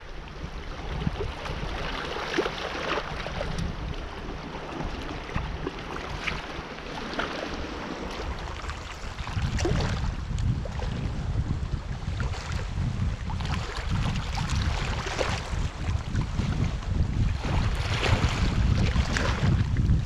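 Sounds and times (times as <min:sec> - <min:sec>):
waves splashing at shore: 0:00.0 - 0:16.6, 0:17.2 - 0:19.7
wind rumble on microphone: 0:00.0 - 0:20.0.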